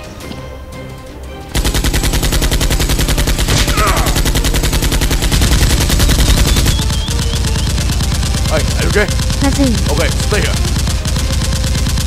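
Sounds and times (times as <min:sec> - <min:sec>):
automatic machine-gun fire: 0:01.6 - 0:12.0.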